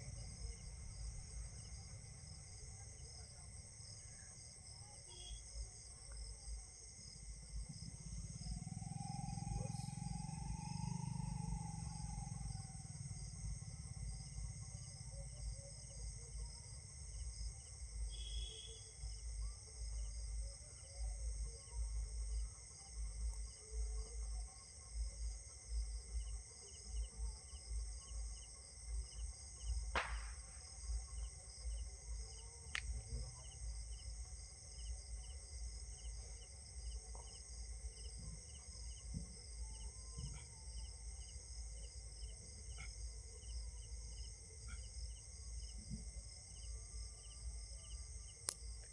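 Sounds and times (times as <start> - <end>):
cricket-like chirping: 0.0 - 48.9
high insect drone: 0.0 - 48.9.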